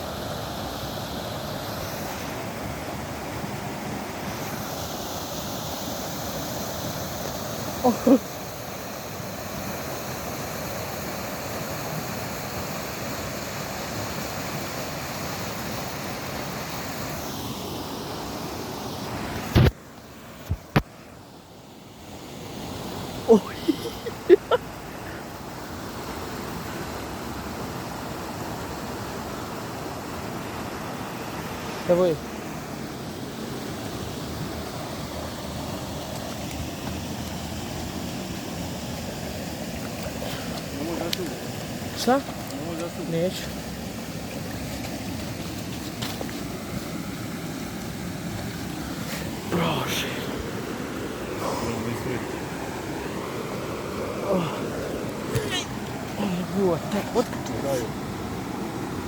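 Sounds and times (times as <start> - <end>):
fast-flowing river water: 0.0 - 59.0.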